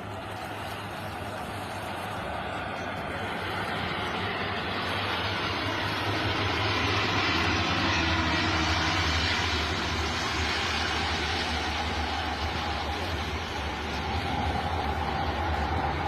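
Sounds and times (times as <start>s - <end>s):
plane engines droning: 0.0s - 16.0s
rushing water noise: 0.0s - 16.0s.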